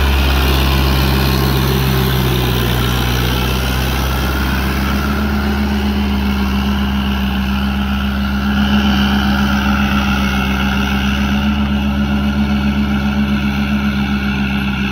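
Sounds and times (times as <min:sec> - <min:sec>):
tractor diesel engine under load: 0:00.0 - 0:14.9.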